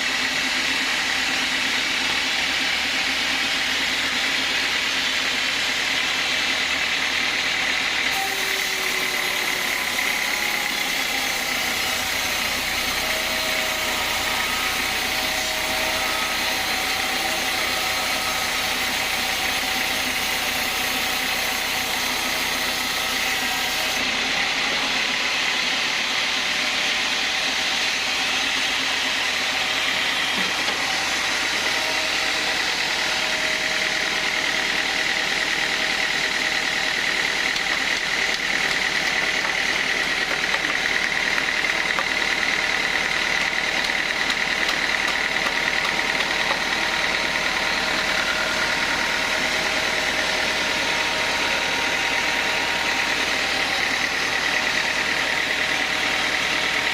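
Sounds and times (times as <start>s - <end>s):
band saw running: 0.0s - 56.9s.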